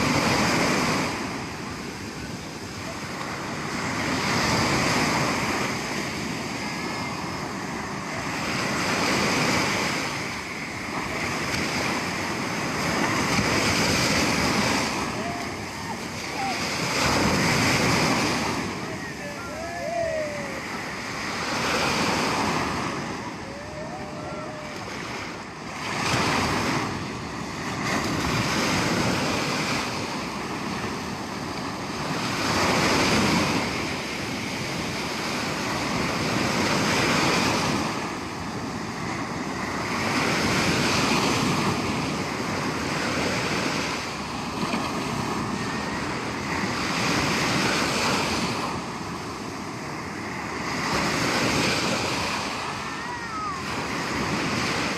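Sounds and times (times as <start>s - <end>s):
sea waves breaking: 0.0s - 54.9s.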